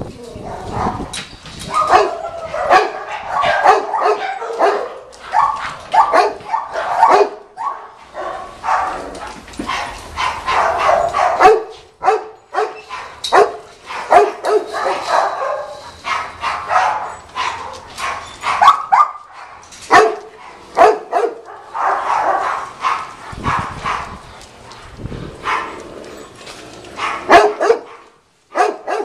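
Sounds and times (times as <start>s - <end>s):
dog barking: 1.7s - 24.2s, 25.4s - 25.8s, 27.0s - 29.0s.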